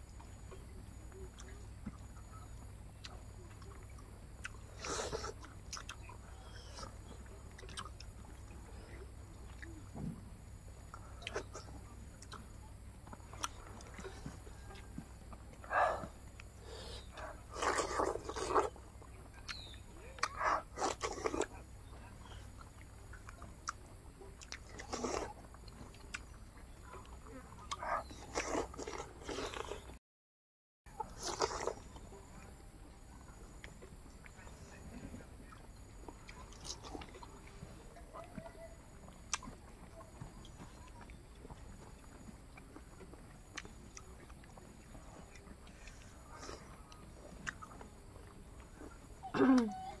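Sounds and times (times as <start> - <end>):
chewing and lip-smacking: 0.0 - 10.0, 10.7 - 30.0, 31.0 - 50.0.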